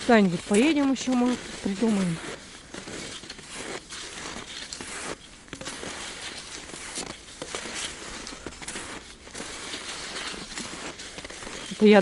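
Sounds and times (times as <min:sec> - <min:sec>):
skis crunching on snow: 0:00.0 - 0:12.0.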